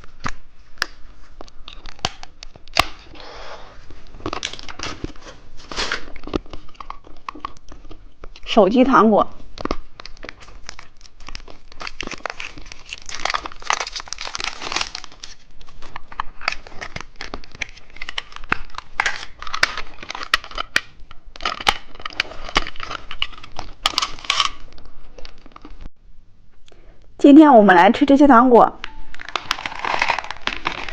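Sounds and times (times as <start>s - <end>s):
plastic wrappers crinkling: 0.0s - 3.2s, 3.8s - 25.8s, 28.8s - 30.9s
wrapper tearing: 0.2s - 3.2s, 4.1s - 8.5s, 9.5s - 25.8s, 29.1s - 30.9s.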